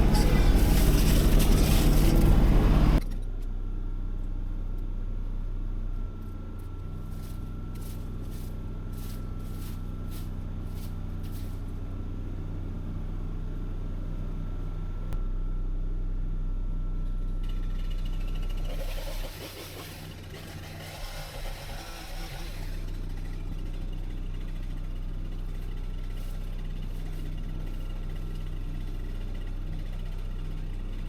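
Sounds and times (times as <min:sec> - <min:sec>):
machine engine idling: 0:00.0 - 0:03.3, 0:05.5 - 0:15.7, 0:16.4 - 0:31.0.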